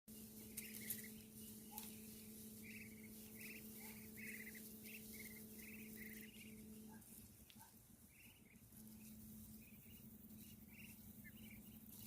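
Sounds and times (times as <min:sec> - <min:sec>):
steady low hum: 0:00.1 - 0:12.0
small animal trilled calls: 0:00.4 - 0:12.0.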